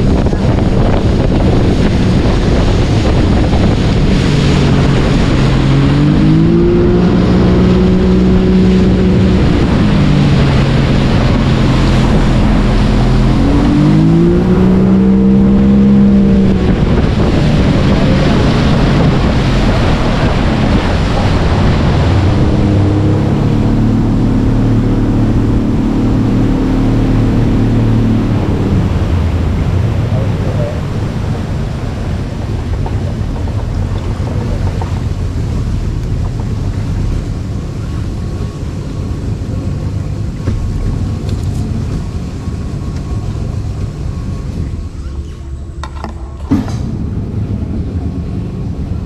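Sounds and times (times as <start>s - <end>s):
outboard motor running: 0.0s - 49.0s
wind buffeting microphone: 0.0s - 49.0s.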